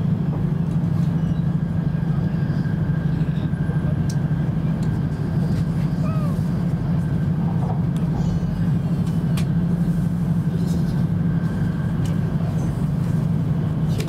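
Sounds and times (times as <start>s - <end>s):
train cabin low drone: 0.0s - 14.0s.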